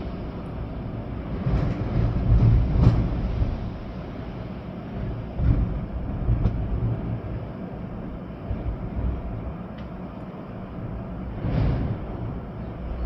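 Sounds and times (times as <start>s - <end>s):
rain hiss: 0.0s - 13.0s
wind buffeting microphone: 0.0s - 13.0s.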